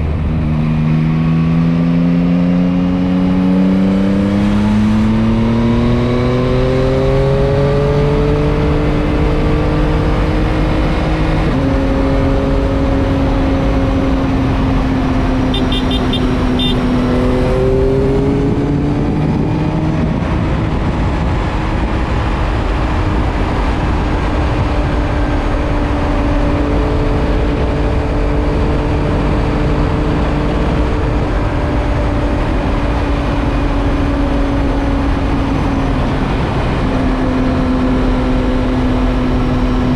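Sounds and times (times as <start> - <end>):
wind noise: 0.0 - 39.9
motorcycle engine shifting gears: 0.1 - 39.9.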